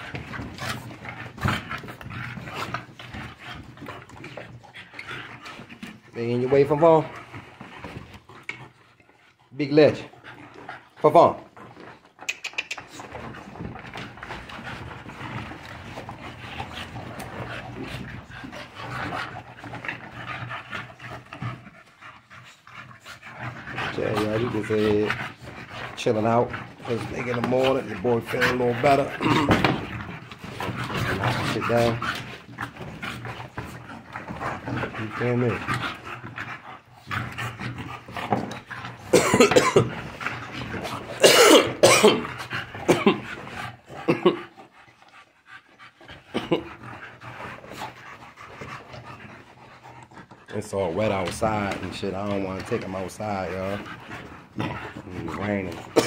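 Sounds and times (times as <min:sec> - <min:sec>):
dog gnawing on toy: 0:00.0 - 0:56.0
dogs playing: 0:00.0 - 0:56.0.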